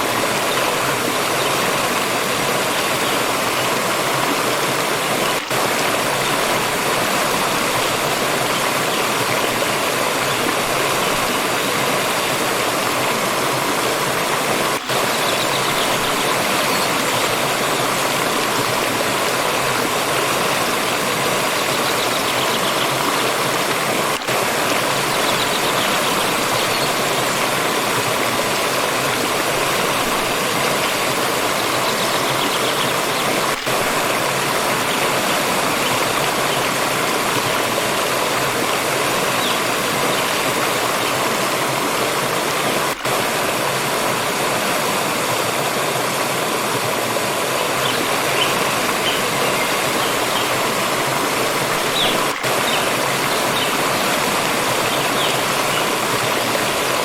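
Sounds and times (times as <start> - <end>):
flowing water stream: 0.0 - 57.0.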